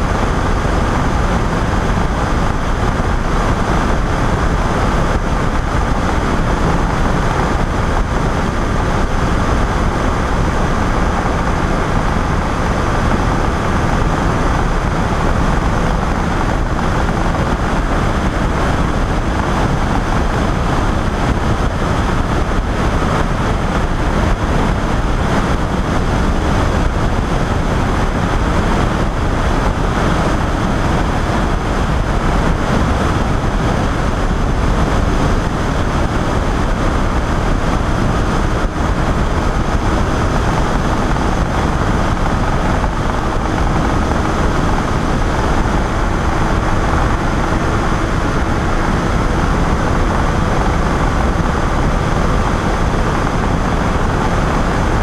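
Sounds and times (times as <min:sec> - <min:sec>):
engine and propeller drone: 0:00.0 - 0:55.0
loud wind rush: 0:00.0 - 0:55.0.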